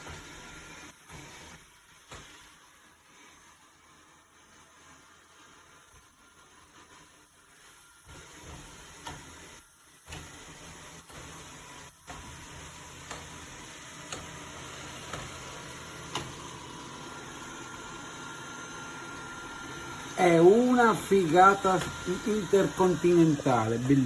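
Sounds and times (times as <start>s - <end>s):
robot vacuum motor humming: 0.0s - 24.0s.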